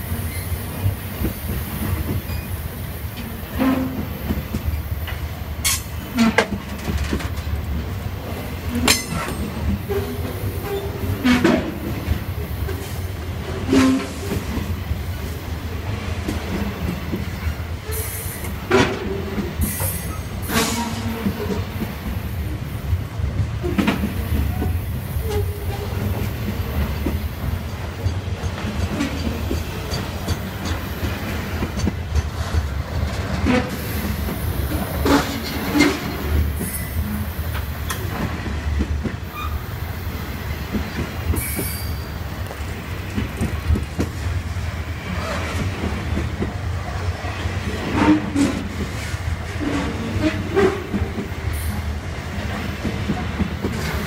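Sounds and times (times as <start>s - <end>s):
freight wagons rumbling on rails: 0.0s - 54.0s
wheels clacking over rail joints: 0.2s - 39.6s, 40.3s - 54.0s.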